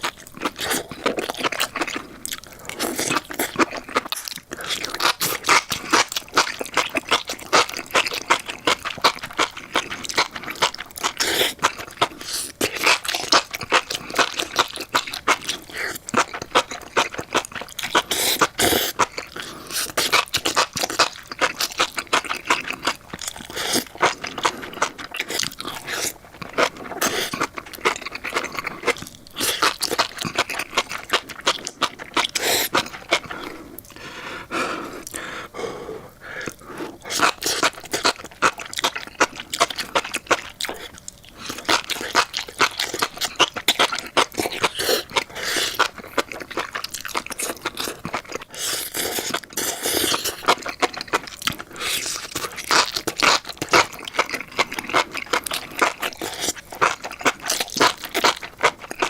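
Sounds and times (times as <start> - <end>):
chewing with wet crunching: 0.0 - 59.0.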